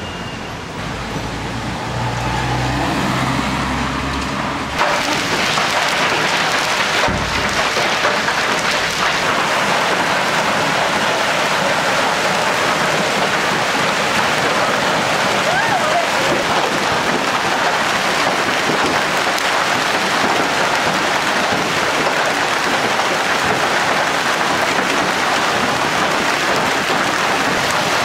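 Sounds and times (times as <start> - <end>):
heavy rain and hail: 1.2 - 28.0.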